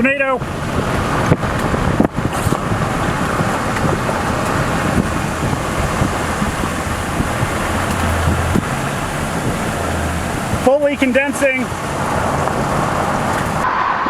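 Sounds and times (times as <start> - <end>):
wind blowing across microphone: 0.0 - 14.0.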